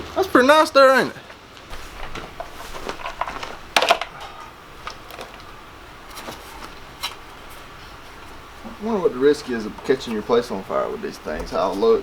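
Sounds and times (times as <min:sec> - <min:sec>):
heat lamp clattering: 0:01.7 - 0:12.0.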